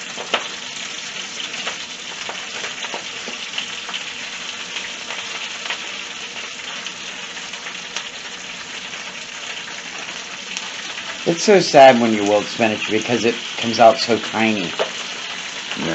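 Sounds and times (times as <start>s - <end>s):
spinach sizzling in oil: 0.0s - 15.9s.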